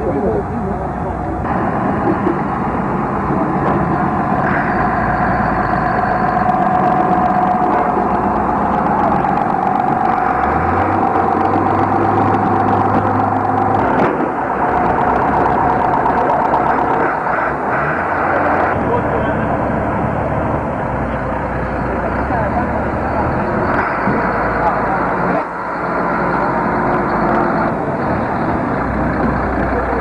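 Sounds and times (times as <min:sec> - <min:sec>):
deep engine drone: 0:00.0 - 0:30.0
vehicle engines running: 0:00.0 - 0:30.0.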